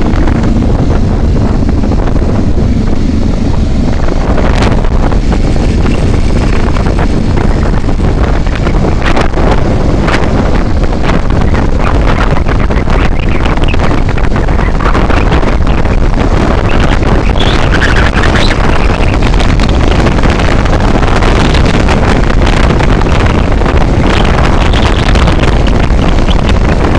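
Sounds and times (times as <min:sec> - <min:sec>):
low vehicle rumble: 0:00.0 - 0:26.9
wind buffeting microphone: 0:00.0 - 0:26.9.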